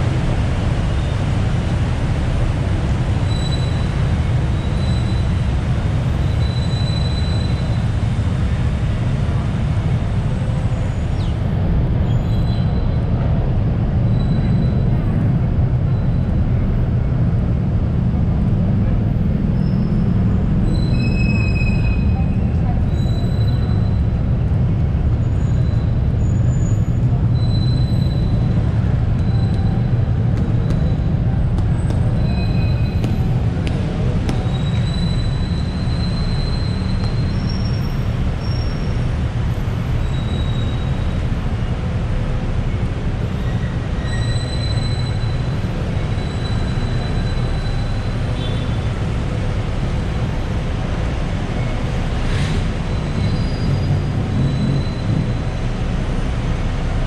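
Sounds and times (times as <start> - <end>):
heavy street traffic rumble: 0.0 - 57.0.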